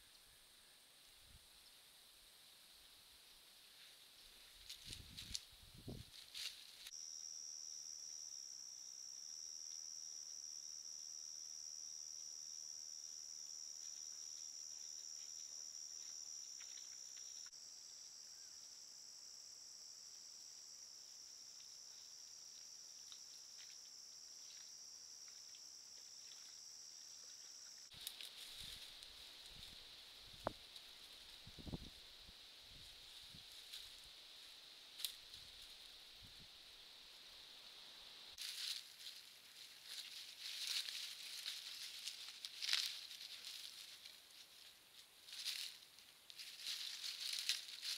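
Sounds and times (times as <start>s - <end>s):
night insects trilling: 0.0s - 47.9s.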